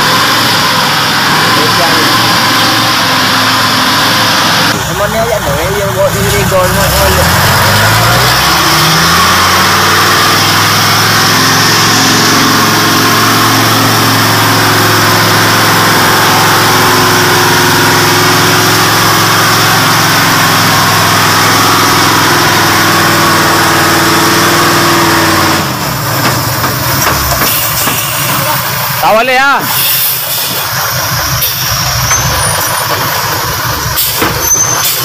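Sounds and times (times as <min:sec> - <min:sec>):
truck engine under load: 0:00.0 - 0:35.0.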